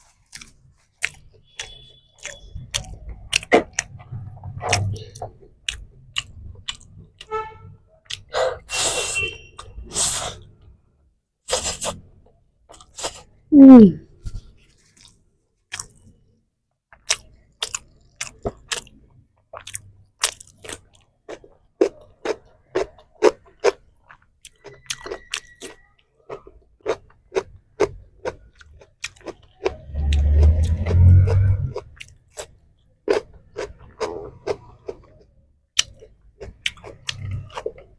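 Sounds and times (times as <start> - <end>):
person chewing crisp food: 0.0 - 7.3, 8.0 - 10.4, 11.5 - 12.0, 12.7 - 13.3, 14.9 - 16.2, 16.9 - 37.9.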